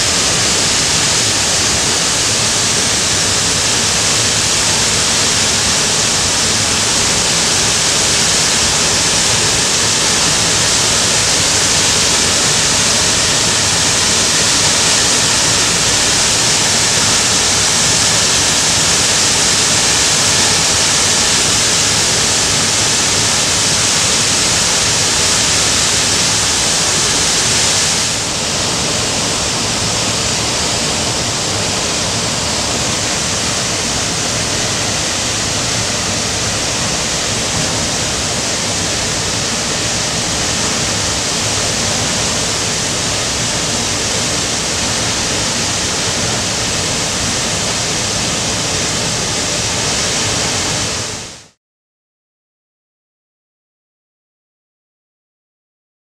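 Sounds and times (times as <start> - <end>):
waterfall rushing: 0.0 - 51.6.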